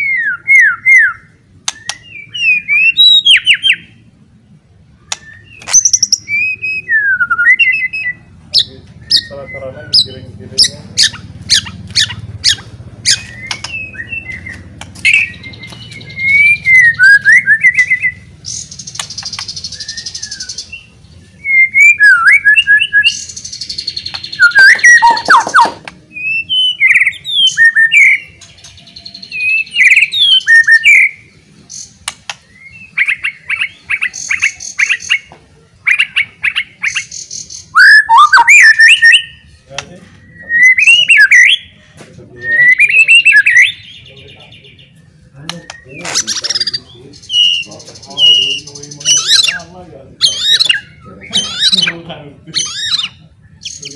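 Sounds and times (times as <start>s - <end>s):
songbird singing loudly: 0.0s - 4.1s, 4.8s - 53.9s.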